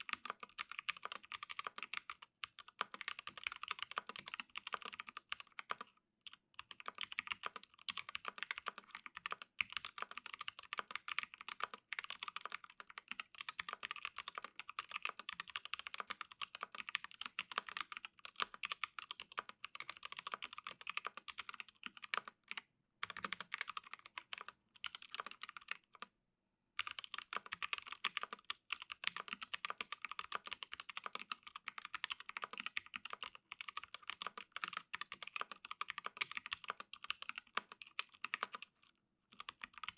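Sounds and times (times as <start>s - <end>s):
mechanical keyboard typing: 0.0s - 26.1s, 26.8s - 39.9s.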